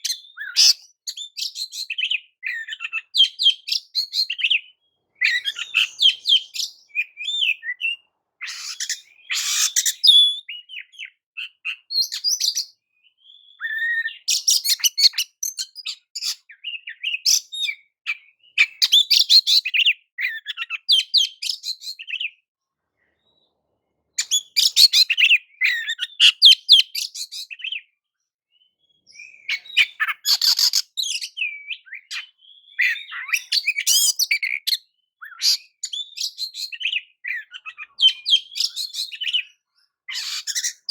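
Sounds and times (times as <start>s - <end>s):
bird singing high phrases: 0.0s - 22.4s, 24.2s - 40.9s.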